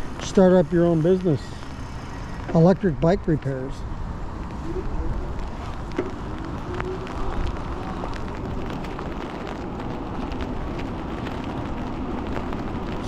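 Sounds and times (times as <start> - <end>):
tyres hissing on wet pavement: 0.0 - 13.0
wind rumbling on microphone: 0.0 - 13.0.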